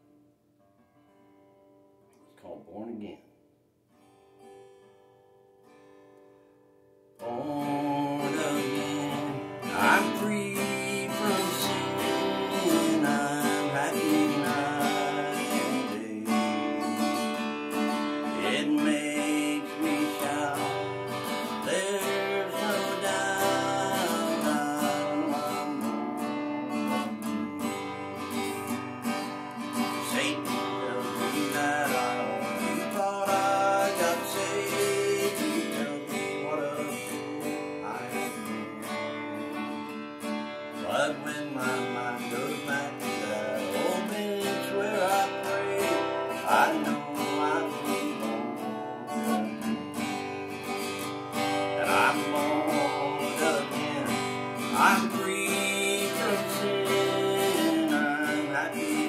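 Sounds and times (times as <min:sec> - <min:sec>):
acoustic guitar strummed: 0:00.0 - 0:03.1, 0:03.8 - 0:59.0.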